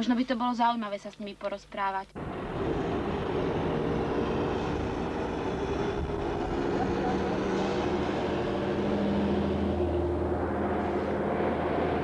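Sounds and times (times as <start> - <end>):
transit vehicle rumbling drone: 2.2 - 12.0.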